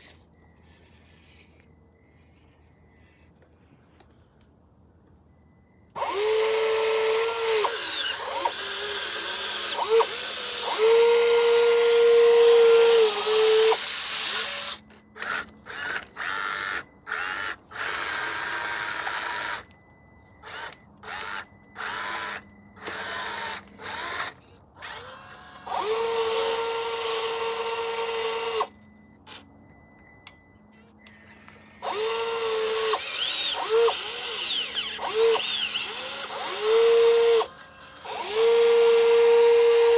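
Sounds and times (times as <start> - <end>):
electric motors whining: 0.0 - 4.1, 5.4 - 39.9.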